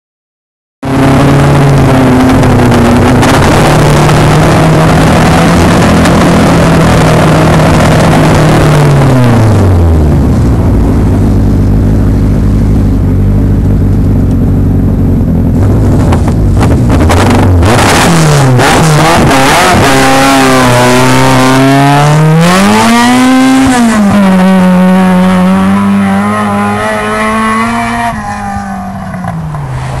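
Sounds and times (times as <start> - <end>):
car engine revving: 0.8 - 30.0.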